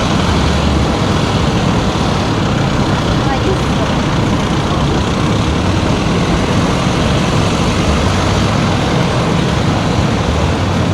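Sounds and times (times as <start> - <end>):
car driving road noise: 0.0 - 10.9.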